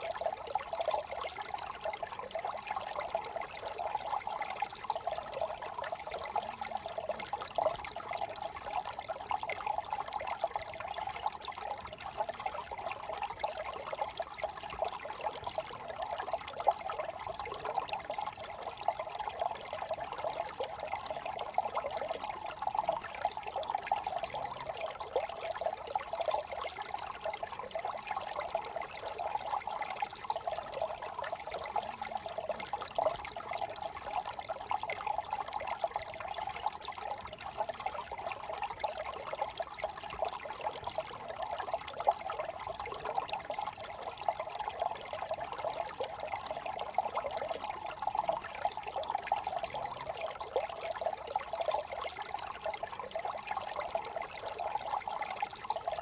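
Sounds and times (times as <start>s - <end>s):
brook trickling over stones: 0.0s - 56.0s.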